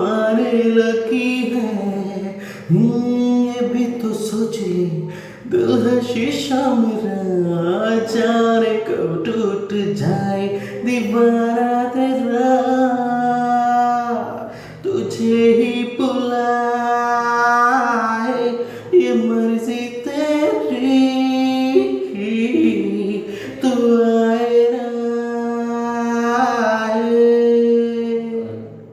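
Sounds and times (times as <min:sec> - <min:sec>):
boy singing unaccompanied: 0:00.0 - 0:28.7.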